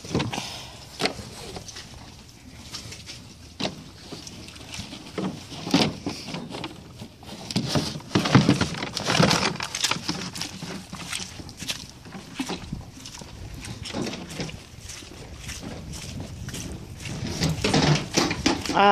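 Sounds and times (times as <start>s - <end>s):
horse muzzle in plastic bucket: 0.0s - 18.9s
horse hooves scuffing soft ground: 1.1s - 18.9s.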